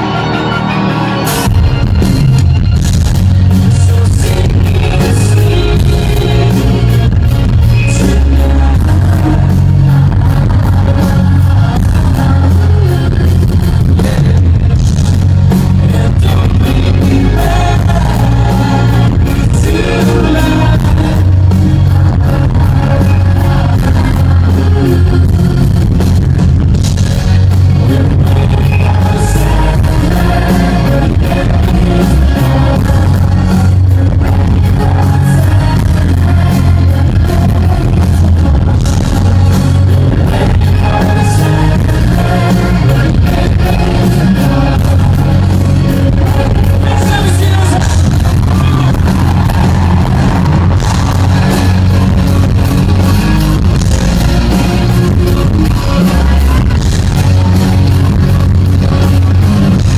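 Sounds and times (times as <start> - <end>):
boomy bass: 0.0 - 59.9
person singing: 0.0 - 59.9
synth-pop band playing live: 0.0 - 59.9.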